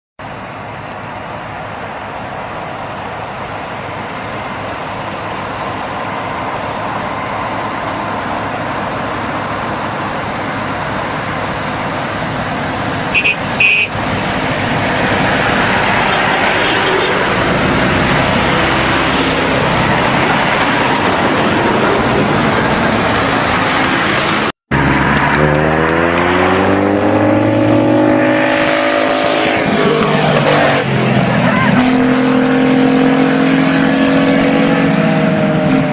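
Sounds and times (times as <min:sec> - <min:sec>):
wind and road noise: 0:00.2 - 0:35.9
engine pitch rising and falling: 0:05.5 - 0:35.9.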